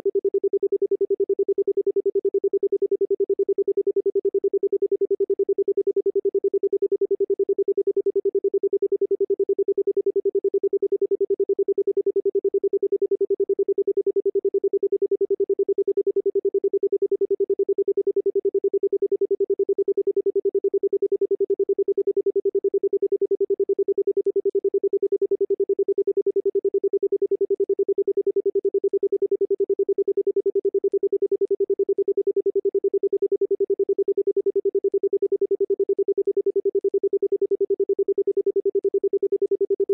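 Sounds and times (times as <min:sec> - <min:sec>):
pulsing sine tone: 0:07.9 - 0:39.9.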